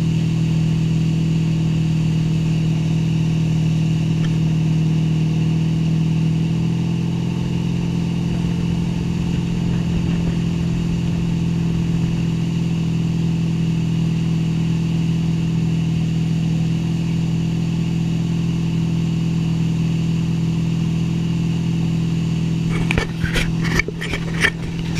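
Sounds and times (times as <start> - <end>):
motorboat engine drone: 0.0 - 24.9.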